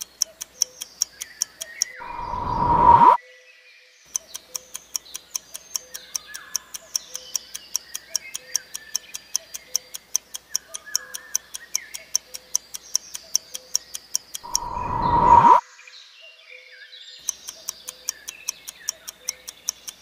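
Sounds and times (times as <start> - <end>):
countdown timer ticking: 0.0 - 3.2, 4.1 - 15.6, 17.2 - 20.0.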